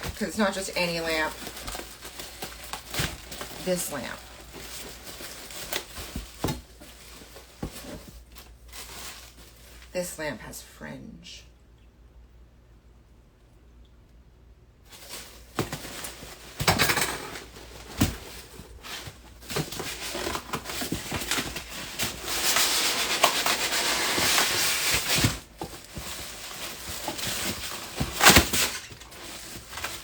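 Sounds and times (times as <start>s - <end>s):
packaging rustling and crinkling: 0.0s - 9.9s, 14.9s - 30.0s.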